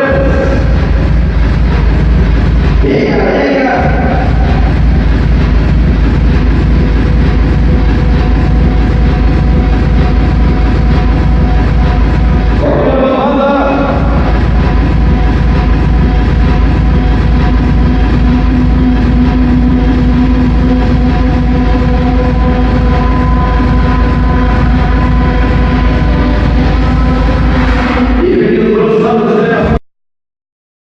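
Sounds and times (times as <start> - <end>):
heavy bass: 0.0 - 29.8
steady electronic tone: 0.0 - 29.8.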